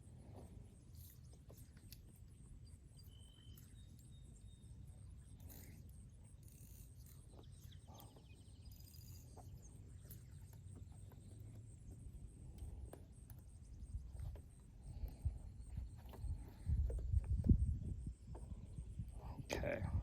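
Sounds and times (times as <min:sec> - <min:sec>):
faint bird chirp: 0:00.0 - 0:20.0.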